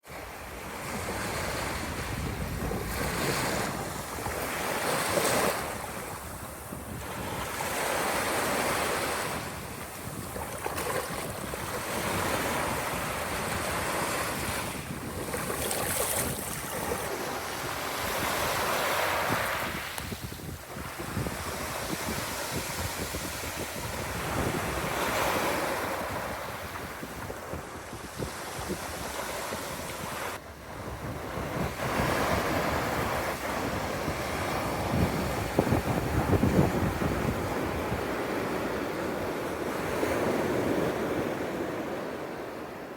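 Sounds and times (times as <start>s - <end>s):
sea waves washing in: 0.1s - 42.9s
wind buffeting microphone: 0.4s - 42.0s.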